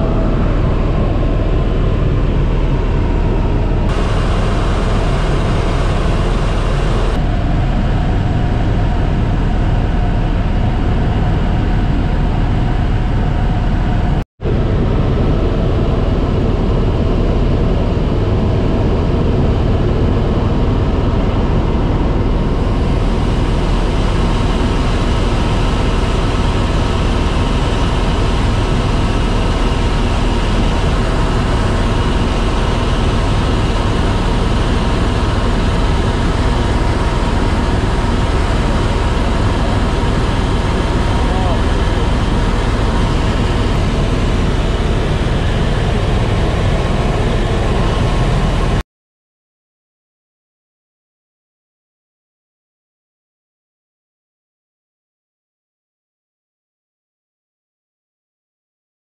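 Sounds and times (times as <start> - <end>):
helicopter engine and rotor noise: 0.0 - 48.8.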